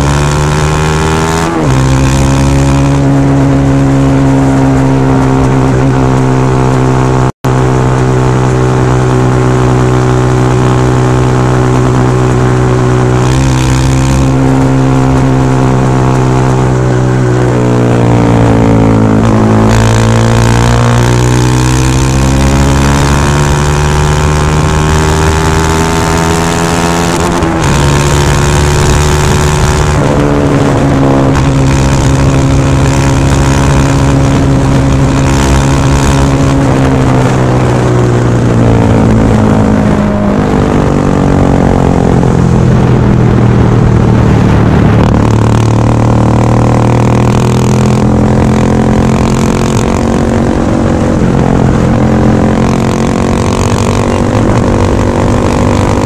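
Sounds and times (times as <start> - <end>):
loud motorcycle engine revving: 0.0 - 56.0.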